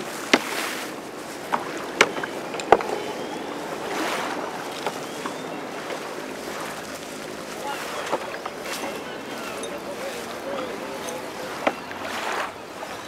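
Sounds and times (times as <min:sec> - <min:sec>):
fishing net swishing: 0:00.0 - 0:10.5.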